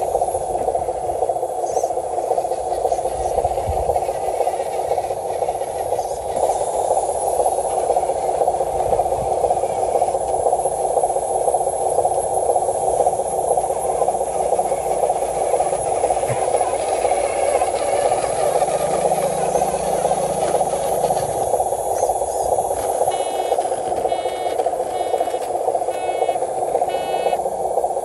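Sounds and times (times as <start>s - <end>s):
toy truck motor whining: 2.0s - 10.4s, 13.1s - 27.4s.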